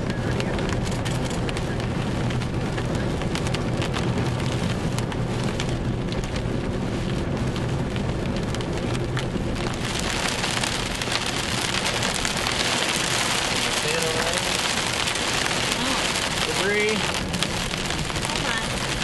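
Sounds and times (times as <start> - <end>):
engine and road noise: 0.0 - 19.0
heavy rain on car windshield: 0.0 - 19.0.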